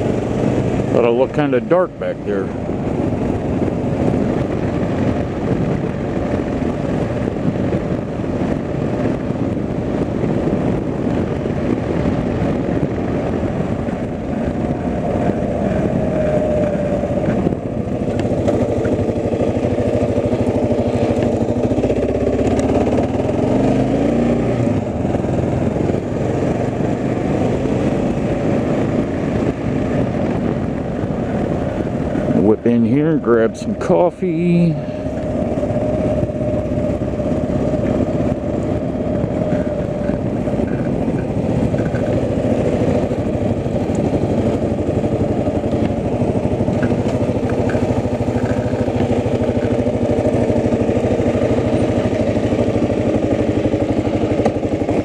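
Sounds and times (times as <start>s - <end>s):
road and wind rumble: 0.0s - 55.0s
vehicle engine running: 0.0s - 55.0s.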